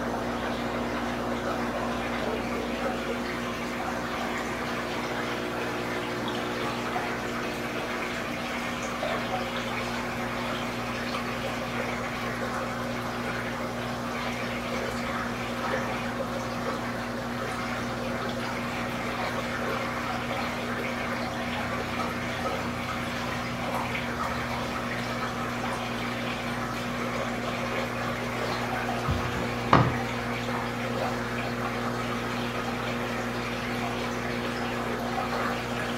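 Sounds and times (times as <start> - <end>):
pump hum: 0.0 - 35.9
water rushing and splashing: 0.0 - 35.9.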